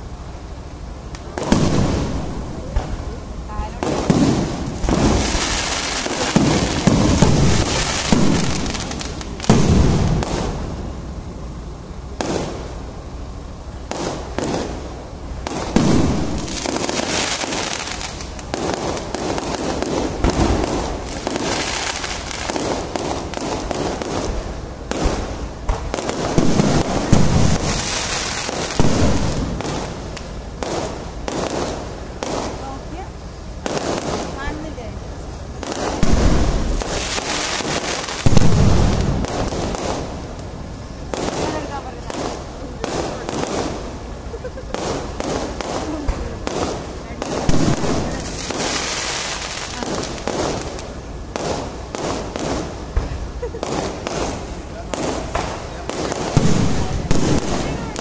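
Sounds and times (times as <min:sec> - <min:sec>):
firework crackling and sputtering: 0:00.0 - 0:58.0
firework shells bursting: 0:00.8 - 0:34.9, 0:35.5 - 0:58.0.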